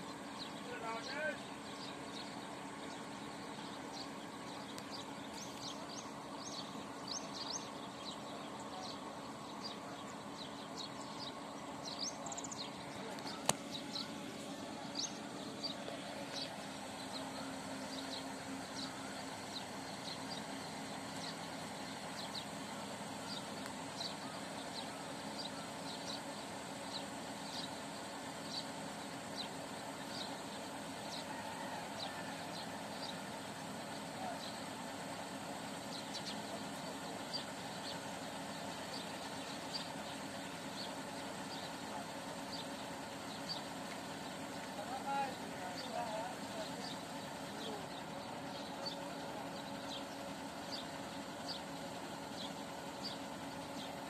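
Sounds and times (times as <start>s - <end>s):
drilling rig droning: 0.1s - 54.0s.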